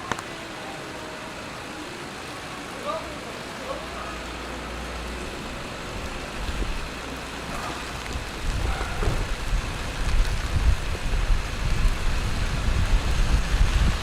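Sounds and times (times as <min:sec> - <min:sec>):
rain hiss: 0:00.0 - 0:14.0
street traffic rumble: 0:00.0 - 0:14.0.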